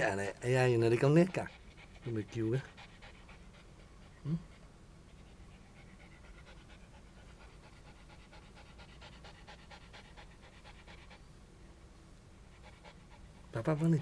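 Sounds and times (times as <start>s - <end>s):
dog panting fast: 0.6s - 11.3s, 12.4s - 14.0s.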